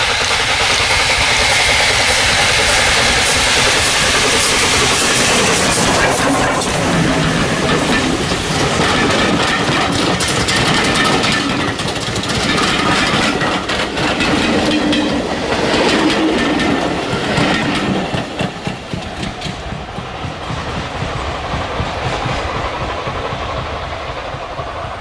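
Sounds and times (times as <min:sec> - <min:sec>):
train passing: 0:00.0 - 0:25.0
wheels clicking over rail joints: 0:00.0 - 0:25.0.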